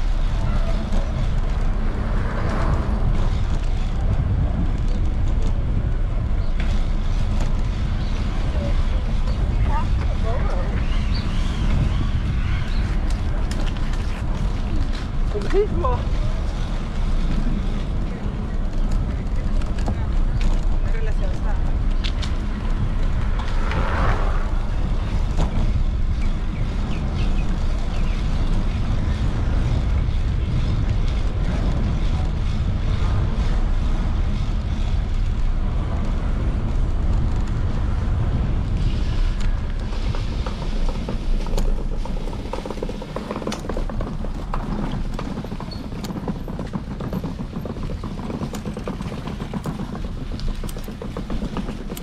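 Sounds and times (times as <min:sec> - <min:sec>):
bicycle rolling noise: 0:00.0 - 0:52.0
wind rumble on microphone: 0:00.0 - 0:52.0.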